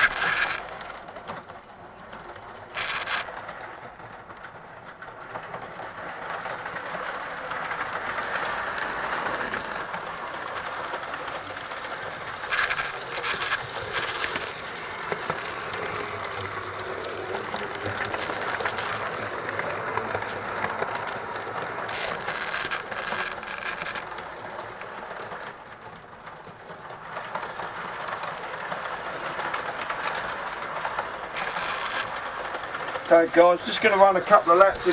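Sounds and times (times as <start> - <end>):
model train motor whir: 0.0 - 1.2, 2.5 - 25.7, 27.2 - 34.9
rapid clicking: 0.0 - 26.0, 26.6 - 34.9.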